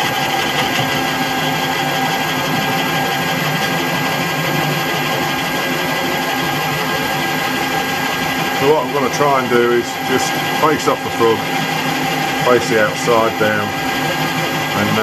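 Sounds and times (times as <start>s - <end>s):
lathe cutting steel: 0.0s - 15.0s.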